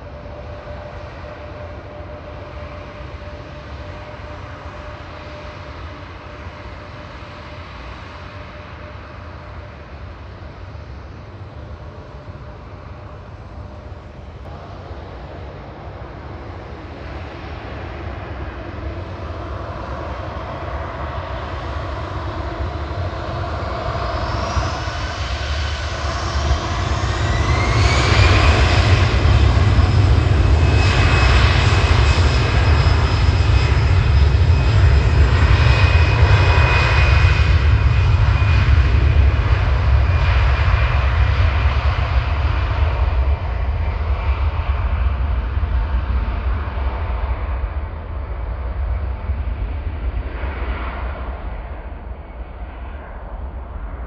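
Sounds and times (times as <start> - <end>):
jet engine whine rising: 0.0 - 54.0
jet engines rumbling: 0.0 - 54.0.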